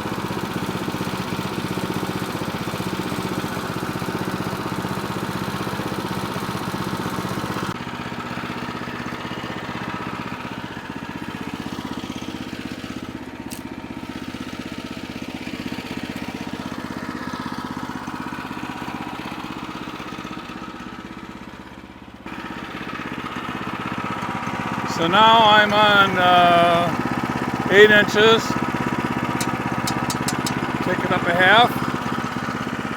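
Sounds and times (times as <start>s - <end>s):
sawmill gas engine running: 0.0s - 32.9s.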